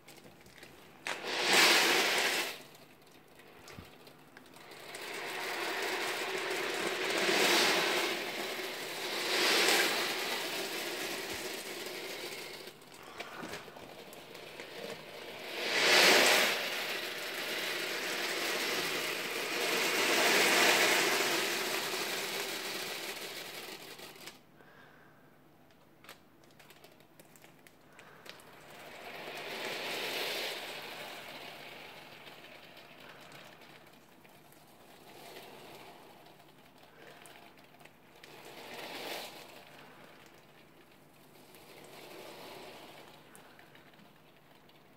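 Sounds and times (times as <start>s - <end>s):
steel ball bearings rattling: 0.0s - 24.4s, 27.9s - 44.9s.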